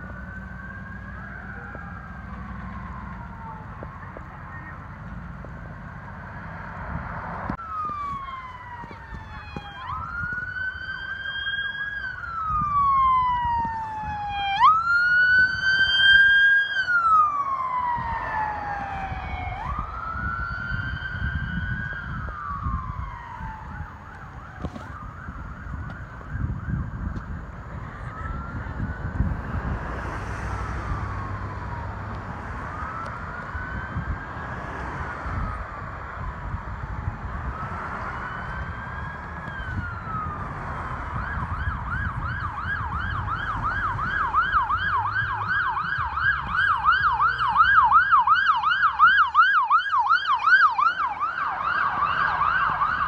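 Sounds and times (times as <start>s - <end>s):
emergency siren wailing: 0.0s - 53.0s
low rumble of traffic: 0.0s - 53.0s.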